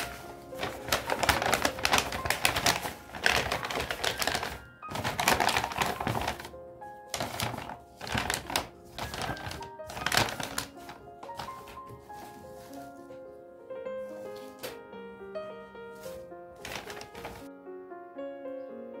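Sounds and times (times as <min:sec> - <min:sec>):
paper bag crackling and rustling: 0:00.0 - 0:13.2, 0:14.0 - 0:14.9, 0:15.9 - 0:17.5
background music: 0:00.0 - 0:19.0.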